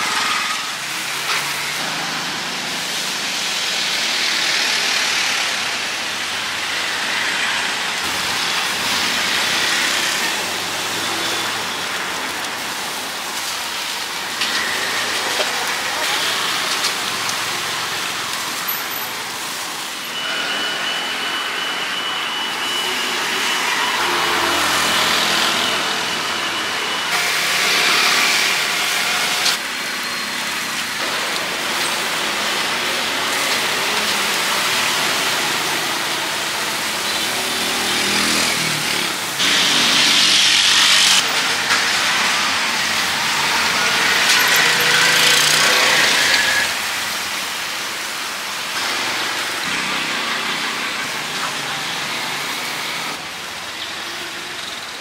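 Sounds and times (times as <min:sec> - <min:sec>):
food sizzling over charcoal grill: 0:00.0 - 0:55.0
street traffic: 0:00.0 - 0:55.0.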